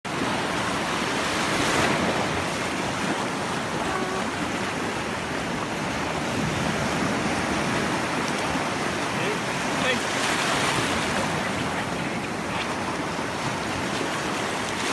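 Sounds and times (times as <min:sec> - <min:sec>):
waves breaking on a beach: 0:00.1 - 0:14.9.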